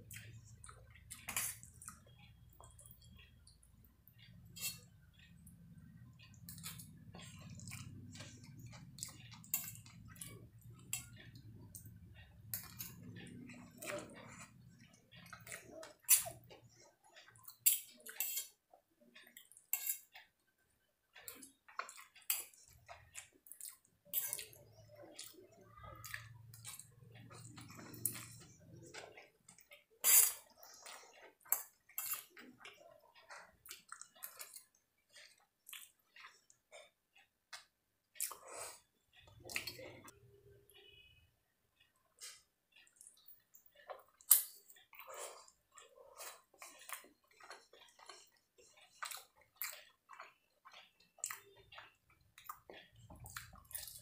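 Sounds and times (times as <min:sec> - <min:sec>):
wet chewing and slurping: 0:00.0 - 0:18.6, 0:21.2 - 0:40.2, 0:41.8 - 0:54.0.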